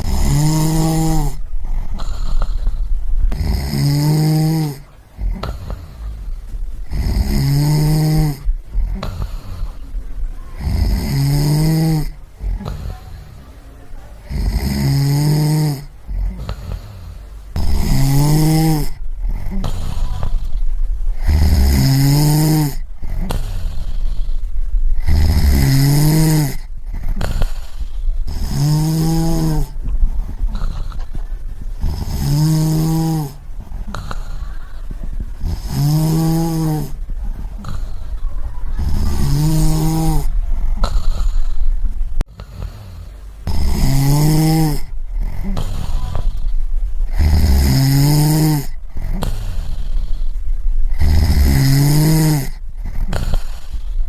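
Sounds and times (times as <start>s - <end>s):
person snoring: 0.0s - 9.9s, 10.6s - 13.5s, 14.2s - 31.2s, 31.8s - 54.0s
breathy noise: 0.0s - 54.0s.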